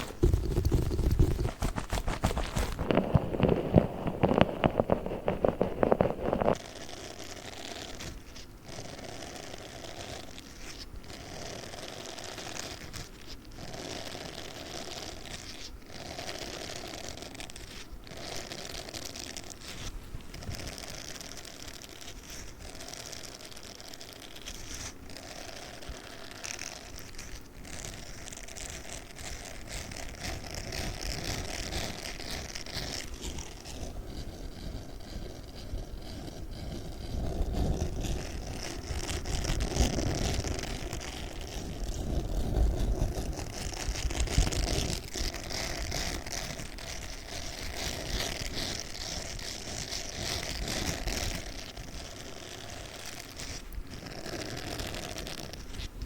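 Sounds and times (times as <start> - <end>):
sponge scratchy rustling: 0.0 - 56.0.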